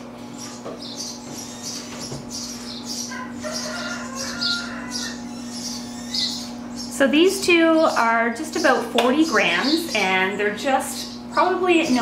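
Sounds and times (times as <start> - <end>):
chicks cheeping: 0.0 - 12.0
steady low hum: 0.0 - 12.0.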